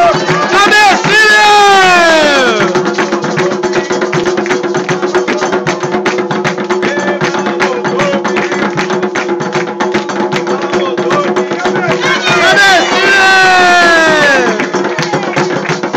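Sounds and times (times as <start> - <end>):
fast hand drumming: 0.0 - 15.9.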